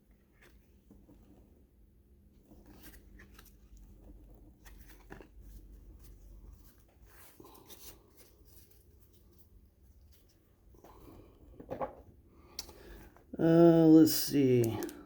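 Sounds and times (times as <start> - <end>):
paper cards rustling and ticking: 0.0 - 11.8, 14.4 - 15.0.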